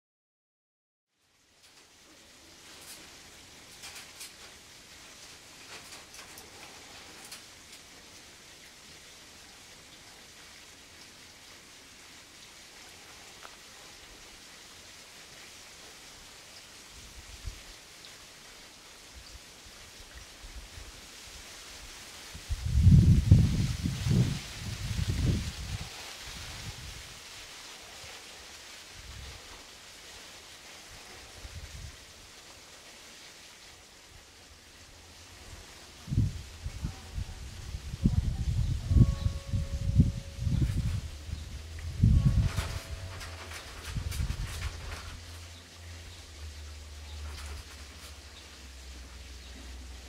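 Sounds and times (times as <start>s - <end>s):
faint outdoor hiss: 1.1s - 50.0s.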